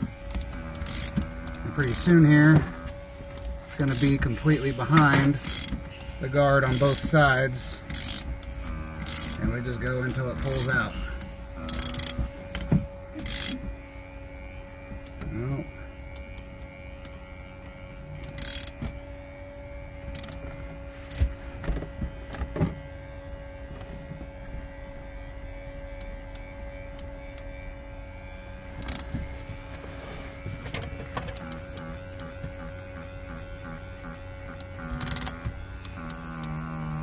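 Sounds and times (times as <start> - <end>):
steady motor hum: 0.0 - 37.0.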